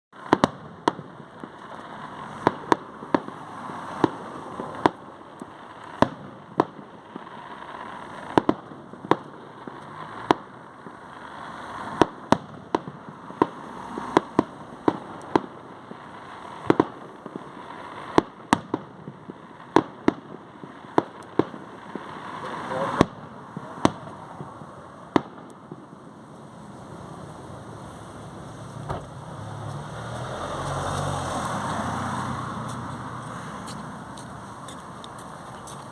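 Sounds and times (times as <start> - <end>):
fireworks bangs: 0.2 - 35.9.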